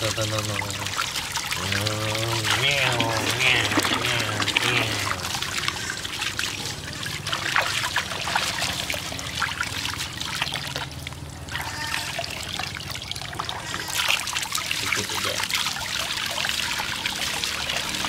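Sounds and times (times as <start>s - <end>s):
water pouring into plastic basin: 0.0s - 18.0s
water splashing: 0.0s - 18.0s.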